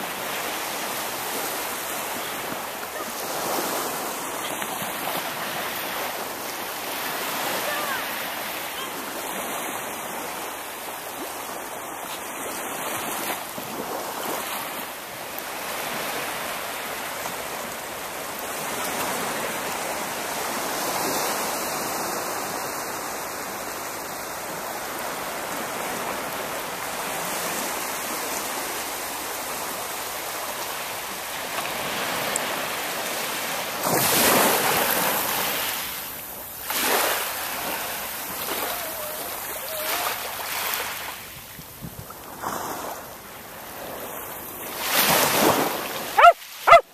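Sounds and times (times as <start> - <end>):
waves washing on beach: 0.0 - 46.9.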